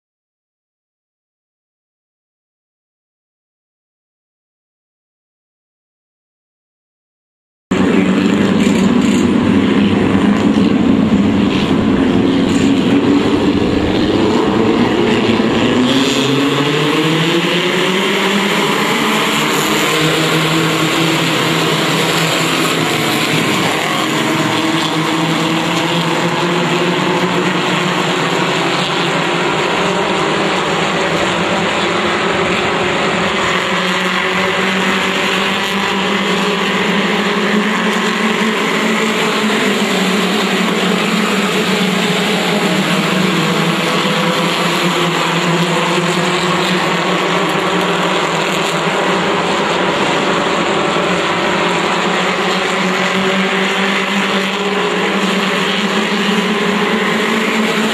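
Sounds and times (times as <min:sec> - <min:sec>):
race car engines: 0:07.7 - 0:57.9.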